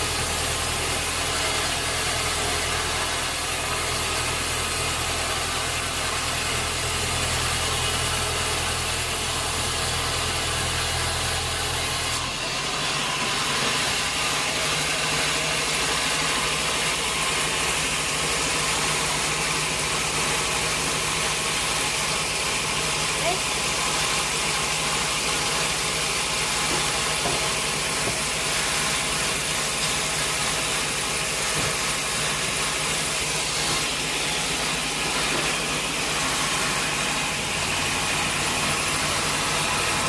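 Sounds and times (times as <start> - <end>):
sawmill machinery humming: 0.0 - 40.0.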